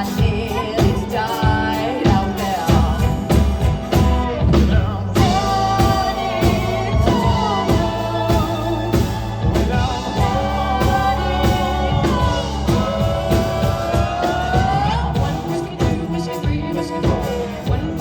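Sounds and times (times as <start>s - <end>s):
bass: 0.0s - 18.0s
drums: 0.0s - 18.0s.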